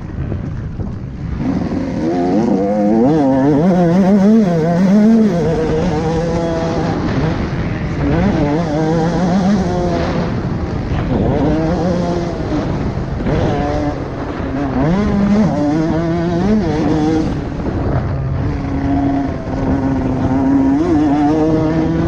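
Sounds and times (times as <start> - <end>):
dirt bike engine revving: 1.2 - 22.0.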